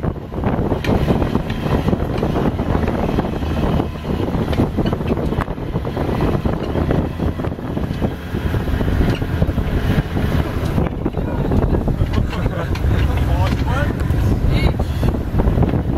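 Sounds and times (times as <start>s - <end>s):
vehicle body rattling and knocking: 0.0s - 15.9s
vehicle engine running: 0.0s - 15.9s
wind buffeting the microphone: 0.0s - 15.9s.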